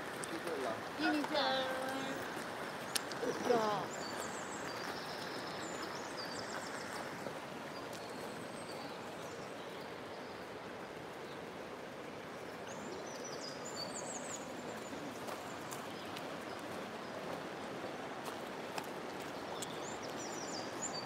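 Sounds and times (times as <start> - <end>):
river water running over gravel: 0.0 - 21.0
small birds chirping: 0.1 - 11.5, 12.4 - 17.5, 18.8 - 21.0.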